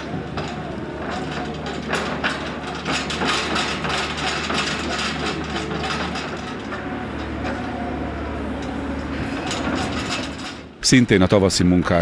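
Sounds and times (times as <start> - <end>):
low engine hum: 0.0 - 10.8
clatter of knocks and rattles: 0.0 - 12.0.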